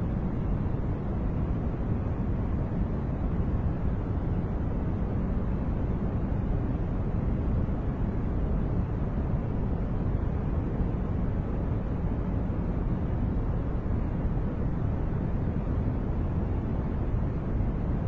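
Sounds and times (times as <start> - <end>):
deep white noise rush: 0.0 - 18.0.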